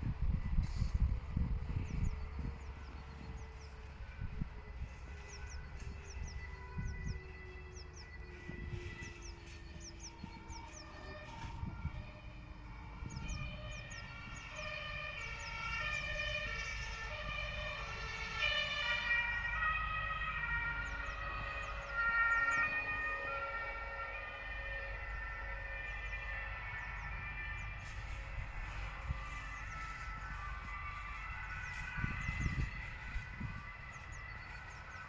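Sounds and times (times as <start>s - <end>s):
sirens rising and falling: 0.0s - 35.0s.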